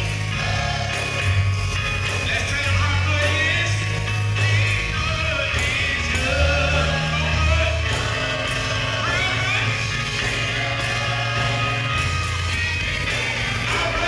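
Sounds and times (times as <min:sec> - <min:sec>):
gospel group singing: 0:00.0 - 0:14.0
keyboard accompaniment: 0:00.0 - 0:14.0
low bass line: 0:00.0 - 0:14.0.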